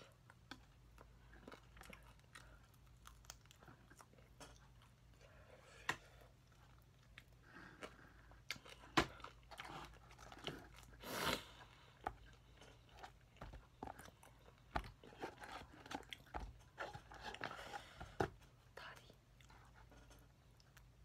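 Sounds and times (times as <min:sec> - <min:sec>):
person chewing crunchy food: 0:00.0 - 0:18.3.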